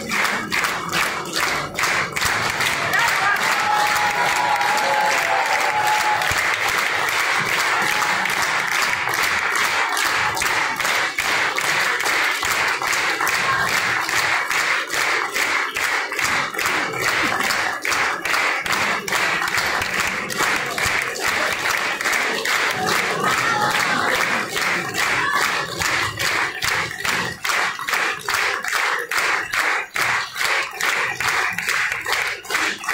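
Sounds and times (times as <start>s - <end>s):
large audience applauding: 0.0s - 32.9s.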